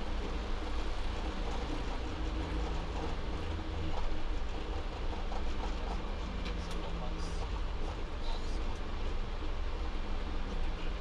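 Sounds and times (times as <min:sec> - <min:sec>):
wheels rumbling on runway: 0:00.0 - 0:11.0.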